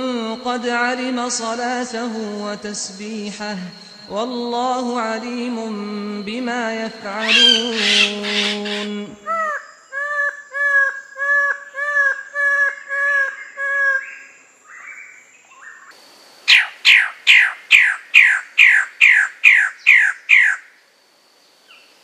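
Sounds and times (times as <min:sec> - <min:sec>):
birds calling: 0:00.0 - 0:20.8.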